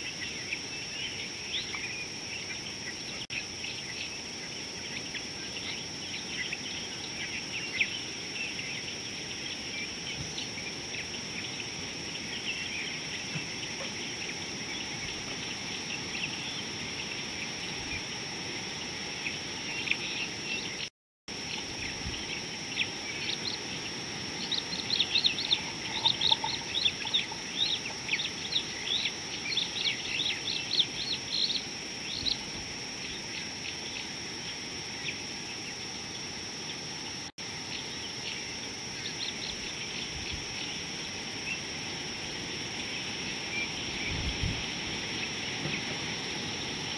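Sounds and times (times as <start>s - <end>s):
small birds chirping: 0.0s - 41.7s
high insect drone: 0.0s - 46.9s.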